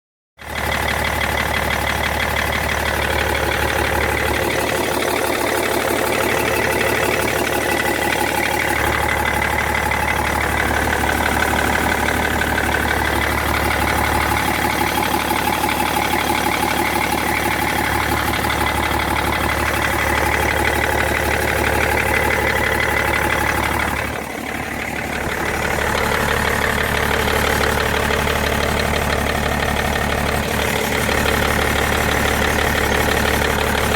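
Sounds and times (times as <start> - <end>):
diesel engine idling: 0.4 - 33.9
engine ticking: 0.4 - 33.9.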